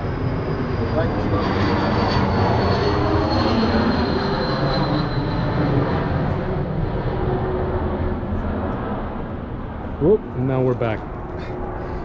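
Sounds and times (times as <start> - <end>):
high engine whine: 0.0 - 12.0
jet airplane rumbling overhead: 0.0 - 12.0.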